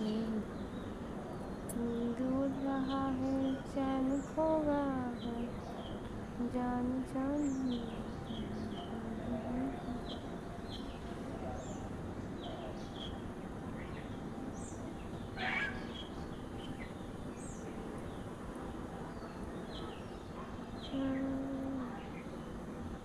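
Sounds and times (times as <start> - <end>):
small birds chirping: 0.0 - 23.0
steady background hiss: 0.0 - 23.0.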